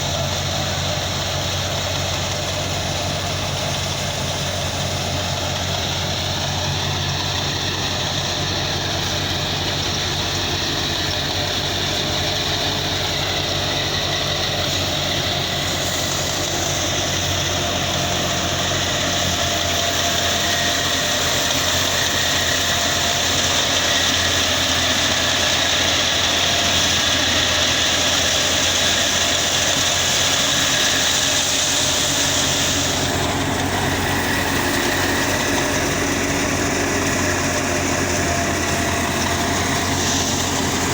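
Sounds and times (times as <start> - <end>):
high hissing rush: 0.0 - 40.9
thresher humming: 0.0 - 40.9.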